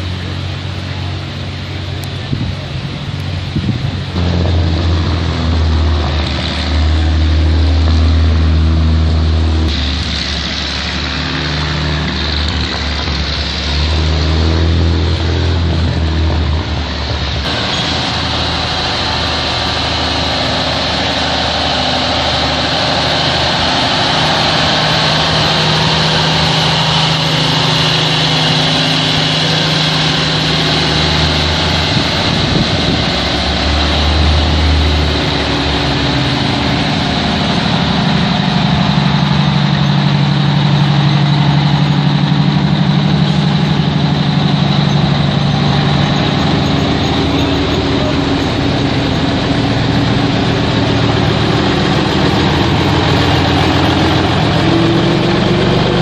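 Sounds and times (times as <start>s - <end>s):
large engines idling: 0.0s - 56.0s.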